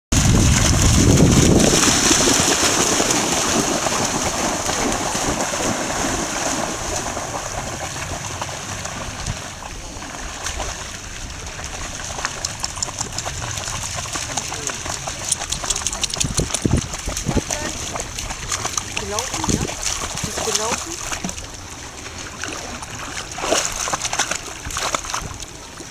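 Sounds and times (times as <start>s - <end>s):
dogs splashing through water: 0.2s - 25.9s.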